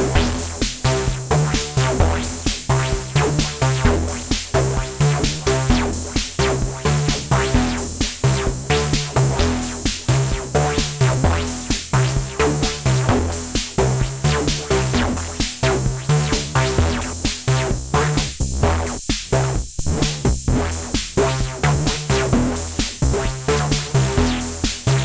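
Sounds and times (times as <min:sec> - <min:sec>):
drum machine beat: 0:00.0 - 0:25.0
synthesizer bass line: 0:00.0 - 0:25.0.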